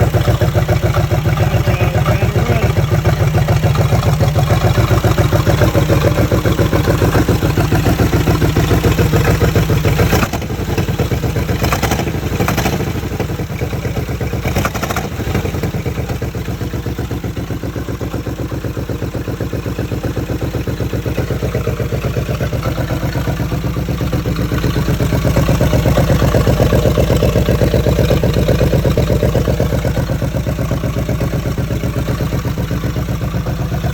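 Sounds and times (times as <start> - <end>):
engine with rough exhaust leak: 0.0 - 33.9.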